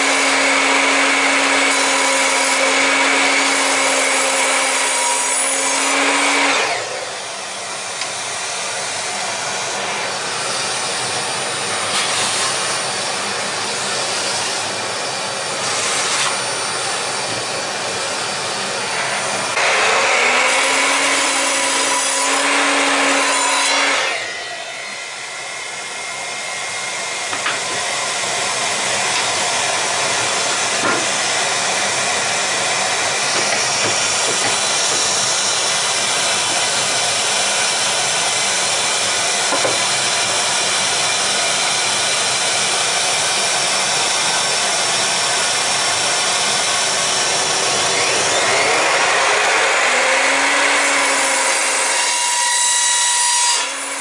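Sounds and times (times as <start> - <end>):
saw motor whining: 0.0 - 54.0
shop vacuum running: 0.0 - 54.0.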